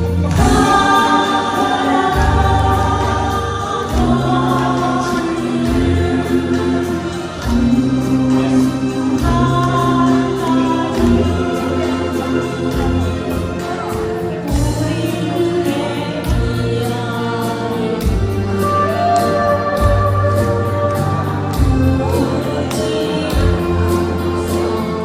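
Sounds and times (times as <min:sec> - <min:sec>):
person singing: 0:00.0 - 0:25.0.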